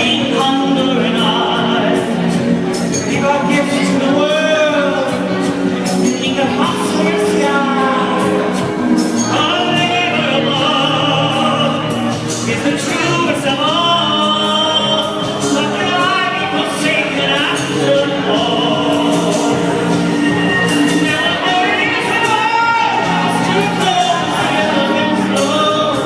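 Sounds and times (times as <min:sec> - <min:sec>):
backing music: 0:00.0 - 0:26.0.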